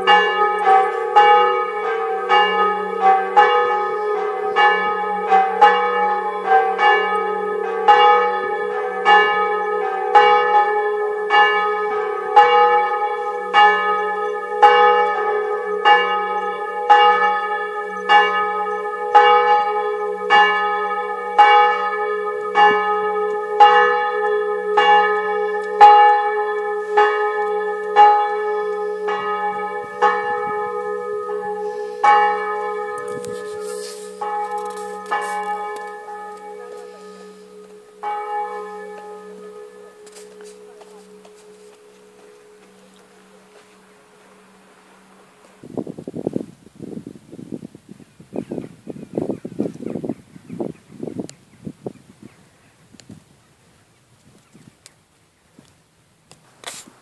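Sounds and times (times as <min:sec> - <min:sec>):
church bells ringing: 0:00.0 - 0:45.7.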